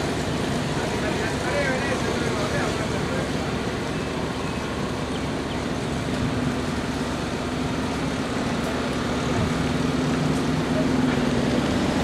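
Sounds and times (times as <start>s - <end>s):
continuous outdoor rumble: 0.0s - 12.0s.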